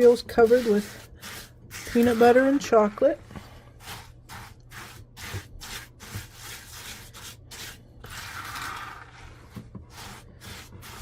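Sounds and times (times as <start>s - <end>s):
spoon stirring cereal in bowl: 0.0s - 3.0s, 3.8s - 11.0s.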